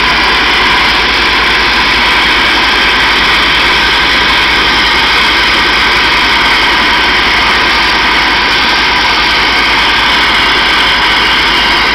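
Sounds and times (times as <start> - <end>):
low throb: 0.0 - 11.9.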